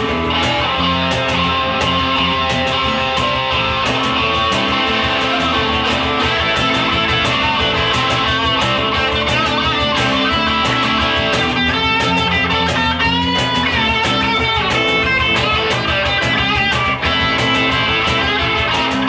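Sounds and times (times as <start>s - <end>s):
electric guitar: 0.0s - 19.0s
live band playing: 0.0s - 19.0s.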